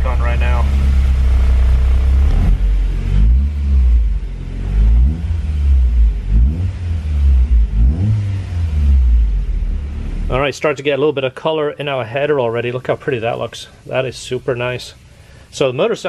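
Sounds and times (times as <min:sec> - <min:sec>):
car engine idling and revving: 0:00.0 - 0:10.5, 0:13.2 - 0:15.6.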